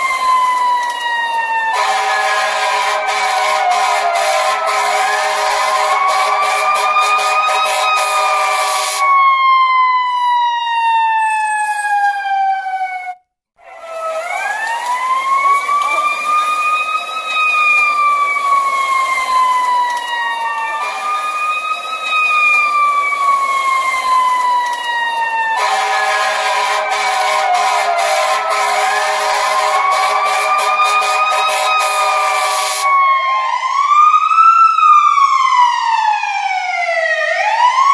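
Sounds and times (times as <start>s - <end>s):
fire truck siren wailing: 0.0s - 37.9s.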